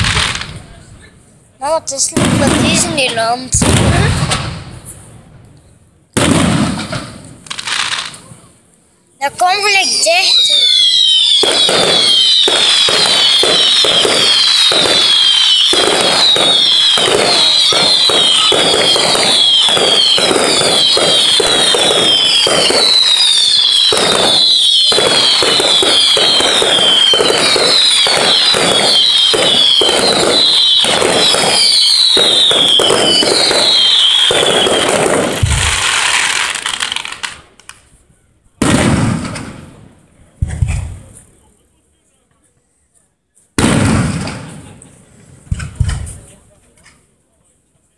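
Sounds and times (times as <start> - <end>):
fireworks crackling and popping: 0.0 - 41.7, 43.5 - 47.2
whistling fireworks: 0.0 - 41.7, 43.6 - 47.0.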